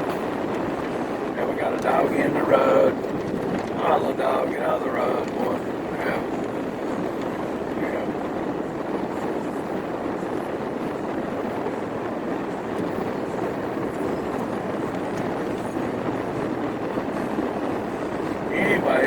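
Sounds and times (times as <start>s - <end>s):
tyre noise on wet road: 0.0s - 19.0s.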